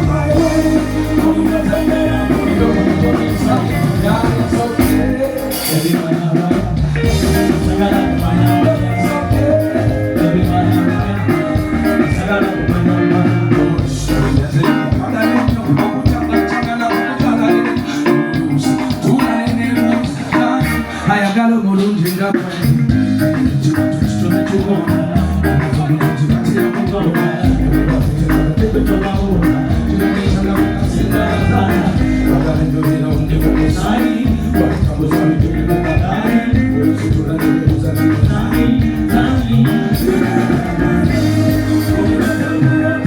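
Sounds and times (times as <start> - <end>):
loud band music over speakers: 0.0 - 43.0.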